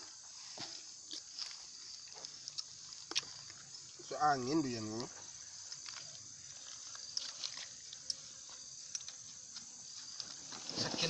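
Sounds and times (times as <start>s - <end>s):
steady high-pitched hiss: 0.0s - 11.0s.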